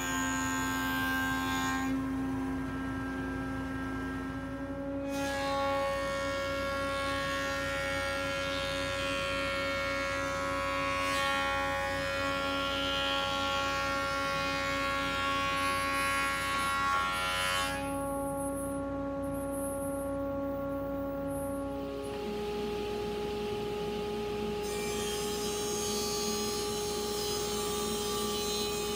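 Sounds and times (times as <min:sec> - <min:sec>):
planer cutting wood: 0:00.0 - 0:18.0, 0:21.8 - 0:28.9.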